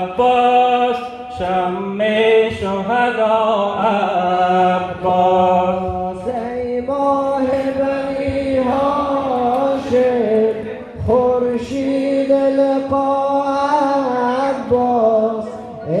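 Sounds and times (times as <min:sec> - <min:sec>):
person chanting a lament: 0:00.0 - 0:16.0.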